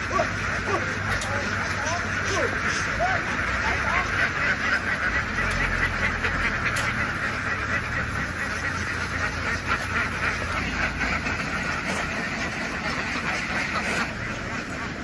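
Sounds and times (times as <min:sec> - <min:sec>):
ducks quacking: 0:00.0 - 0:15.0
low engine hum: 0:00.0 - 0:15.0.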